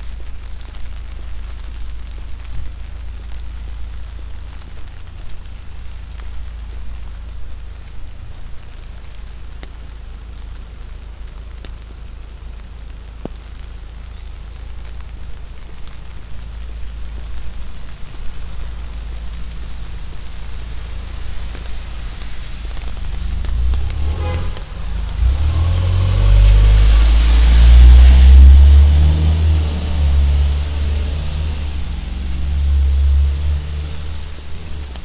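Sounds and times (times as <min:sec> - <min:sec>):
car tyres hissing on wet road: 0:00.0 - 0:35.0
low traffic rumble: 0:00.0 - 0:35.0
rain hissing on street: 0:00.0 - 0:35.0.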